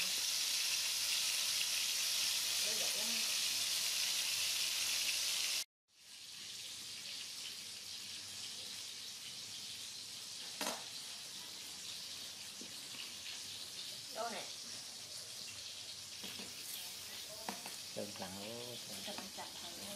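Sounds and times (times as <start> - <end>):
fish sizzling in hot oil: 0.0 - 19.9.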